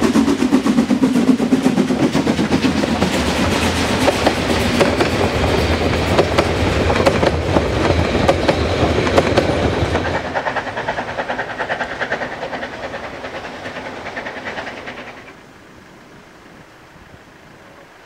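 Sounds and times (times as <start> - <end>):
train wheels clattering over rail joints: 0.0 - 15.4.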